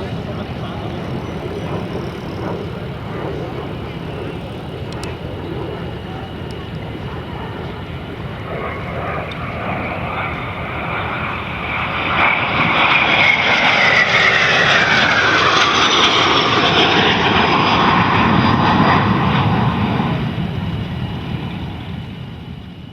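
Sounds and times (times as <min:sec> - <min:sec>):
jets passing by: 0:00.0 - 0:22.9.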